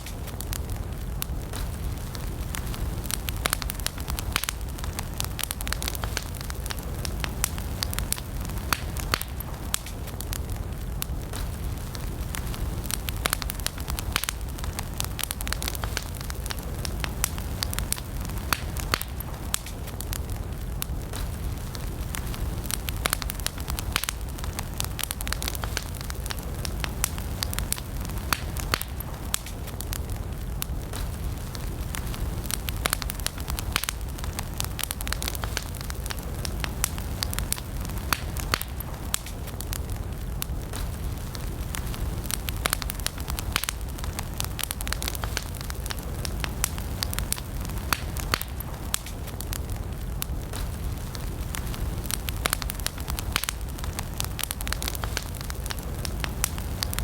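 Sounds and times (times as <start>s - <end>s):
campfire crackling and popping: 0.0s - 57.0s
low fire rumble: 0.0s - 57.0s.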